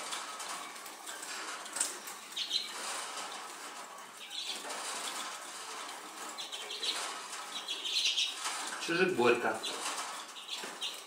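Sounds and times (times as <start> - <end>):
seeds rustling and crackling: 0.0 - 11.0.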